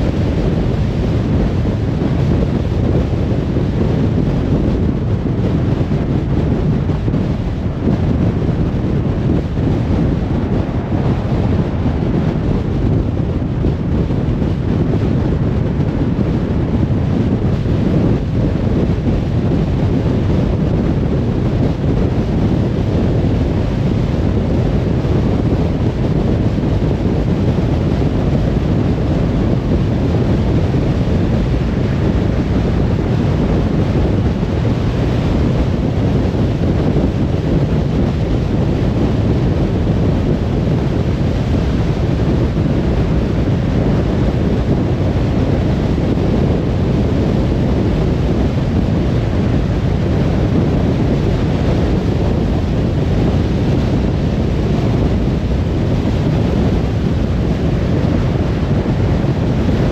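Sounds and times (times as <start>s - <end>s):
car driving at highway speed: 0.0s - 59.9s.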